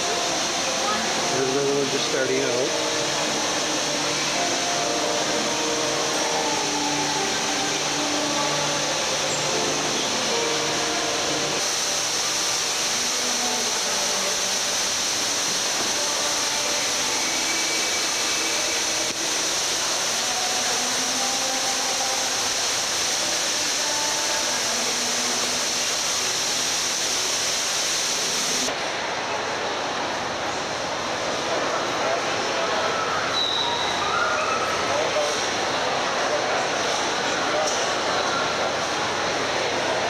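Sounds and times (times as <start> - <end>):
distant crowd murmur: 0.0 - 40.0
waterfall rushing: 0.0 - 40.0.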